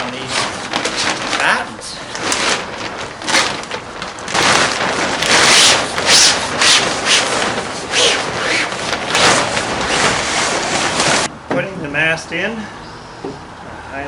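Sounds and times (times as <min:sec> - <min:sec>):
sail cloth rustling against mast: 0:00.0 - 0:11.3.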